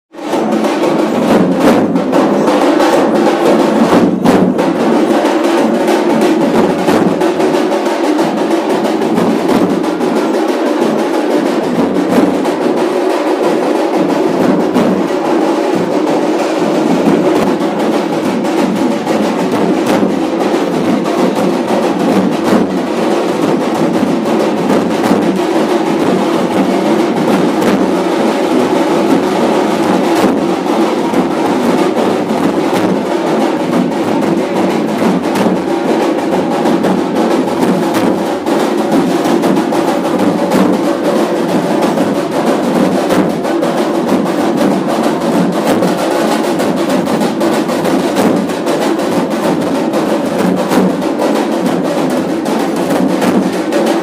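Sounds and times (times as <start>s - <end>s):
drums beating dense rhythm: 0.1s - 54.0s.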